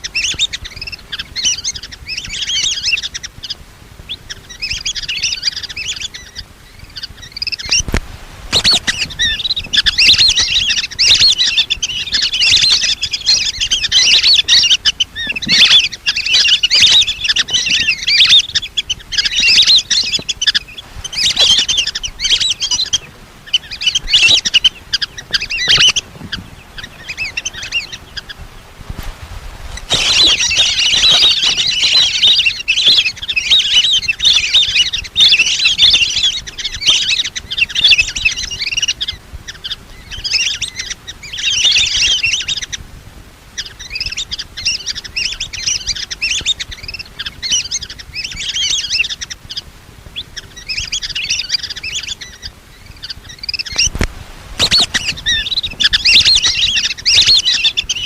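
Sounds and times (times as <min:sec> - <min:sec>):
ducks whistling calls: 0:00.0 - 0:42.9, 0:43.5 - 0:58.0.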